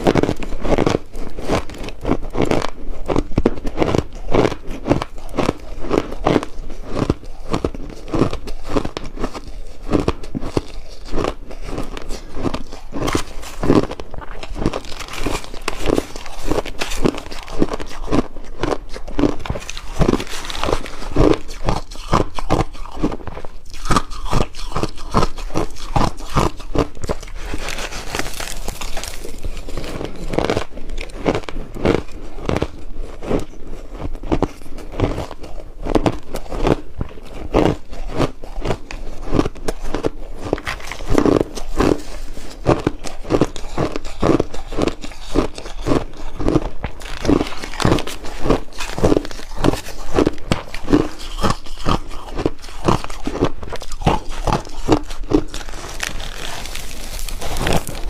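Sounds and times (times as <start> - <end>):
ice crunched between teeth: 0.0 - 58.0.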